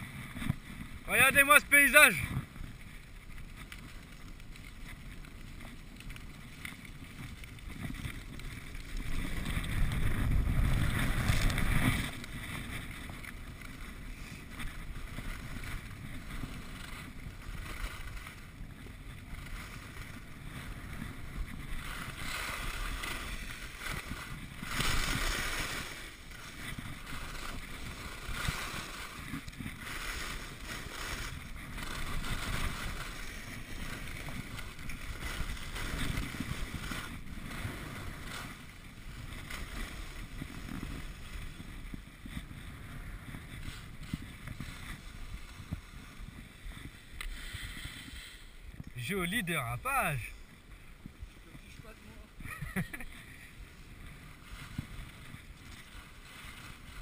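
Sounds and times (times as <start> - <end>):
skis scraping over packed snow: 0.0 - 57.0
wind rushing over microphone: 6.9 - 57.0.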